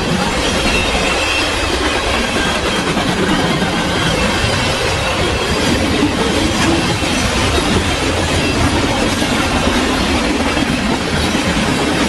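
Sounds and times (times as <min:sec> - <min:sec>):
freight train wheels rattling: 0:00.0 - 0:12.0.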